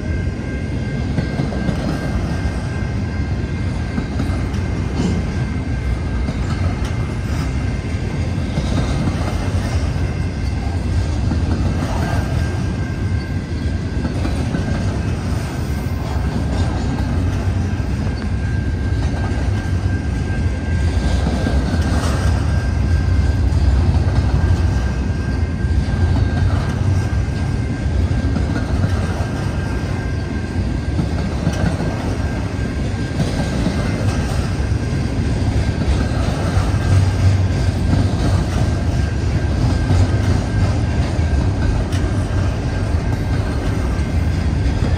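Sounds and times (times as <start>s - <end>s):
freight train wheels rumbling on rail: 0.0s - 44.9s
wheels clicking over rail joints: 3.6s - 44.9s.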